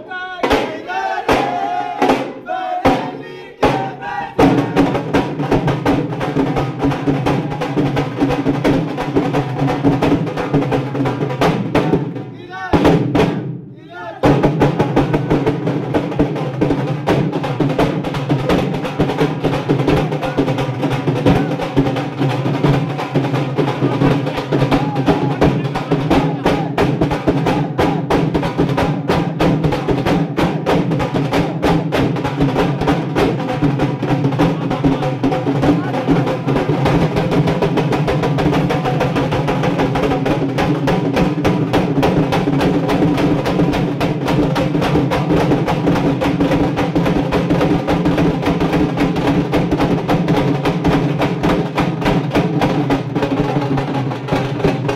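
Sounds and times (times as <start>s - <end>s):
drums played with sticks: 0.0s - 54.9s.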